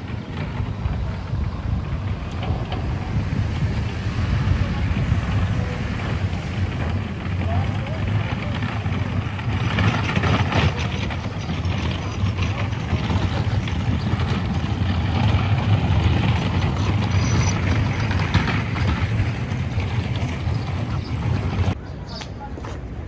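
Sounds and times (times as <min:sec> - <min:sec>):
low mechanical rumble: 0:00.0 - 0:21.8.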